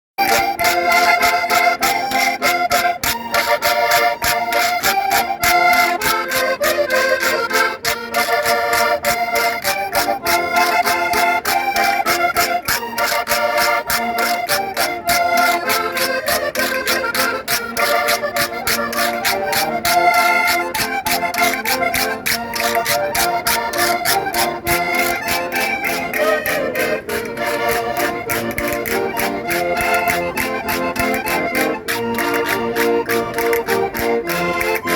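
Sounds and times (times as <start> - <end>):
button accordions playing folk dance: 0.2 - 34.9.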